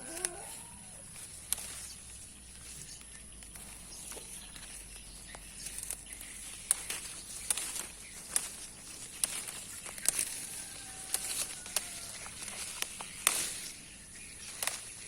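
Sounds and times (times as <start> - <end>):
leaves crackling and rustling: 0.0 - 15.0.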